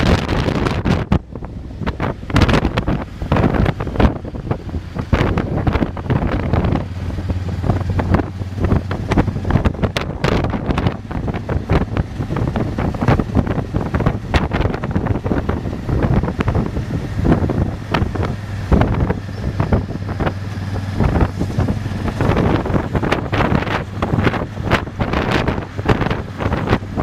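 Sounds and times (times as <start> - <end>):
motorcycle engine humming: 0.0 - 27.0
wind buffeting microphone: 0.0 - 27.0.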